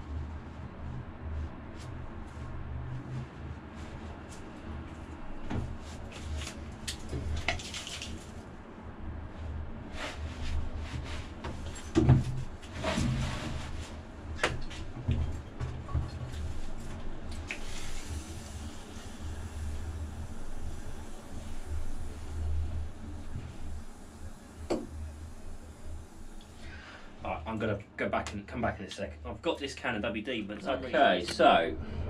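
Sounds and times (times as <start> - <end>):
low steady rumble: 0.0 - 32.0.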